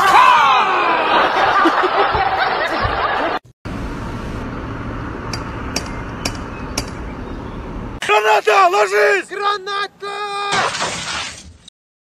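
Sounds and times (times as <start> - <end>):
outdoor street noise: 0.0 - 11.6.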